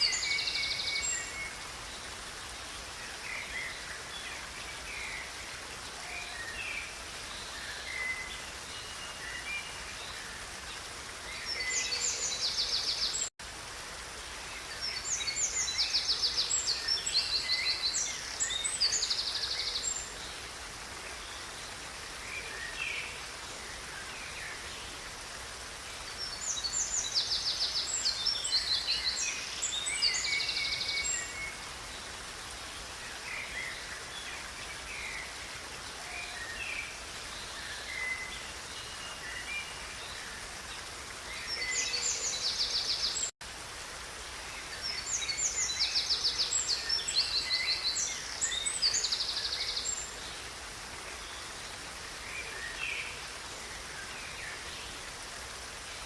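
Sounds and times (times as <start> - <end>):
songbirds singing: 0.0 - 43.3, 44.4 - 56.0
river water rushing: 0.0 - 56.0.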